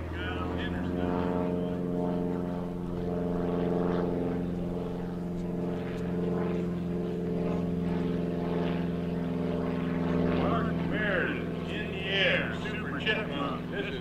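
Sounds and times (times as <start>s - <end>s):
distant propeller plane drone: 0.0s - 14.0s.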